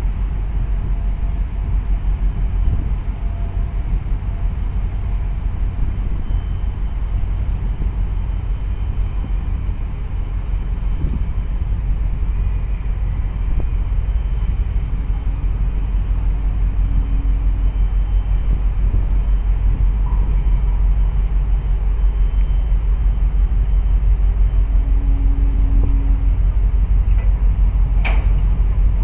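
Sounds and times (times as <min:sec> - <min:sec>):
boat engine rumble: 0:00.0 - 0:29.0
wind noise: 0:00.0 - 0:29.0.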